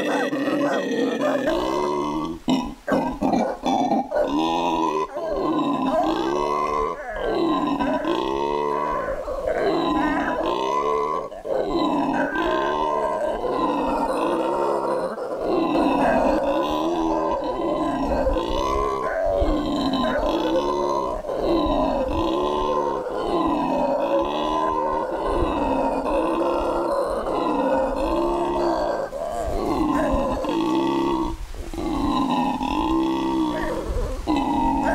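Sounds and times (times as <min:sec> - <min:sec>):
howler monkey roaring: 0:00.0 - 0:34.9.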